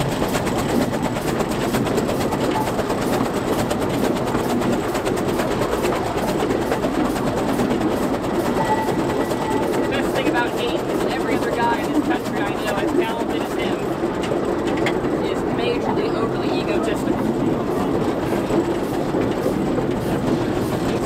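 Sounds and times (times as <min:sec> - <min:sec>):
steam locomotive running: 0:00.0 - 0:21.0
wheels clattering on rails: 0:00.0 - 0:21.0.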